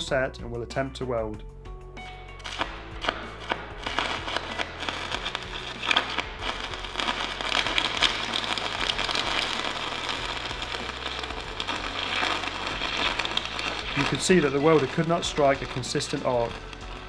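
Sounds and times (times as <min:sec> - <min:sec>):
welding arc crackling and sputtering: 0:02.4 - 0:17.0.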